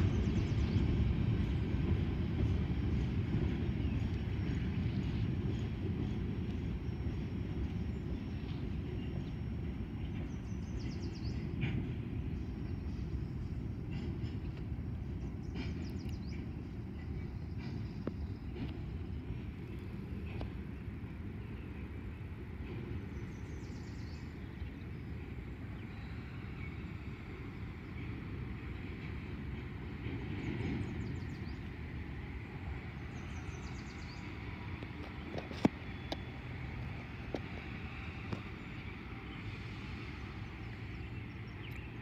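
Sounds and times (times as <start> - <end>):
freight cars rolling on rails: 0.0 - 42.0.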